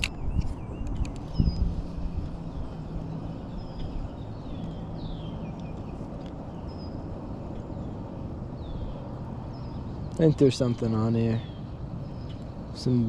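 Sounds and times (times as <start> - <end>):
small birds chirping: 0.0 - 13.0
wind rumble: 0.0 - 13.0.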